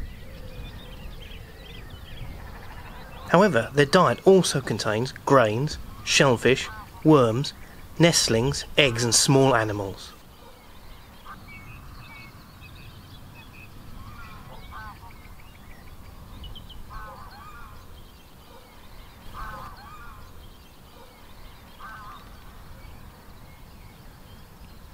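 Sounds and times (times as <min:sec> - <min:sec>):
distant harsh bird calls: 0:00.0 - 0:24.9
small birds chirping: 0:00.0 - 0:24.9.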